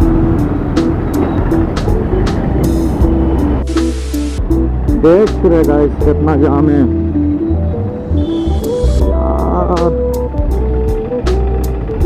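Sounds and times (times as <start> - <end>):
heavy steady bass: 0.0 - 12.0
sustained synth notes: 0.0 - 12.0.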